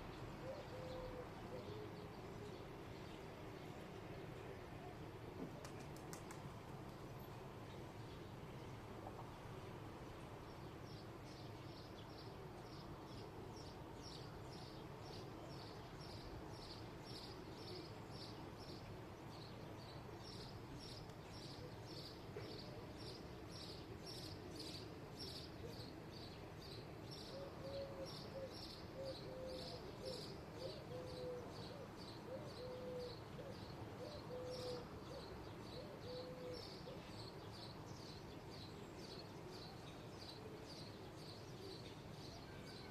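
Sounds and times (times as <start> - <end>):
low outdoor background hum: 0.0 - 42.9.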